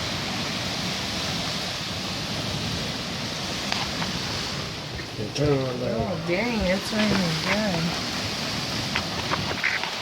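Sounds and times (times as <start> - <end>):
strong wind blowing: 0.0 - 10.0.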